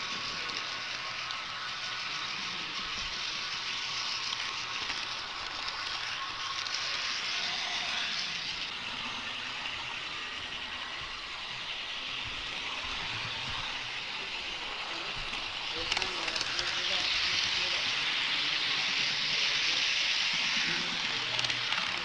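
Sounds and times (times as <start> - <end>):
model train wheels rattling on rails: 0.0 - 22.0.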